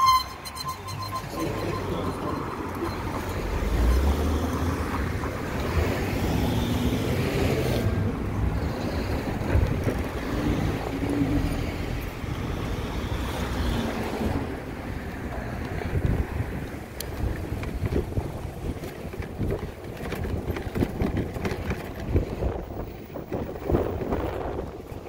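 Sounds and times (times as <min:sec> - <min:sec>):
low road rumble: 0:00.0 - 0:25.0
wind rushing over microphone: 0:04.6 - 0:25.0.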